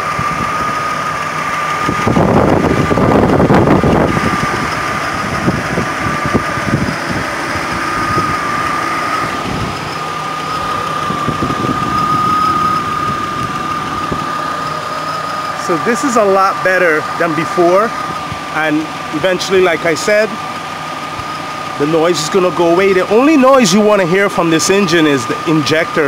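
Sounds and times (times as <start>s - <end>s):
engine idling with lifter tick: 0.0s - 26.0s
steady high whine: 0.0s - 26.0s.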